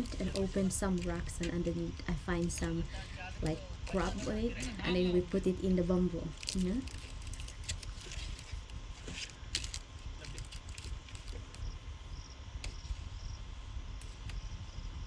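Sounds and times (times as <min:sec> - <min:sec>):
insects chirping in trills: 0:00.0 - 0:15.0.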